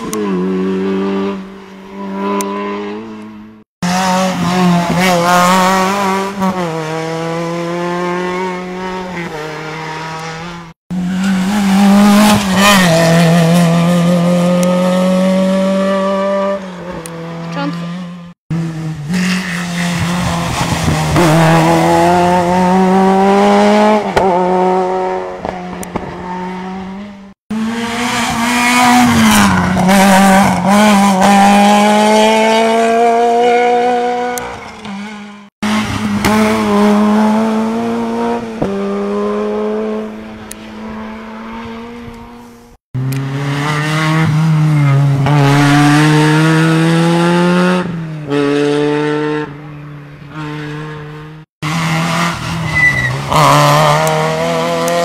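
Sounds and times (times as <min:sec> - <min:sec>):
rally car engines revving high: 0:00.0 - 0:55.0.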